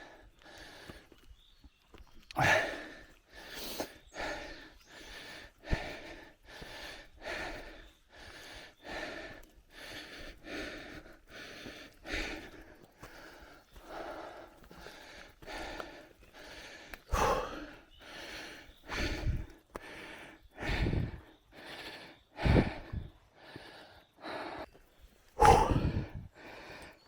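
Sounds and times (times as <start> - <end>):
person breathing hard: 0.0 - 1.2, 2.4 - 27.0.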